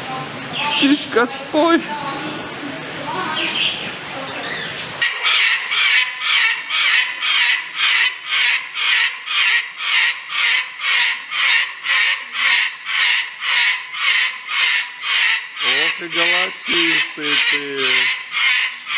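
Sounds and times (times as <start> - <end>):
cockatoo calling: 3.2 - 18.9.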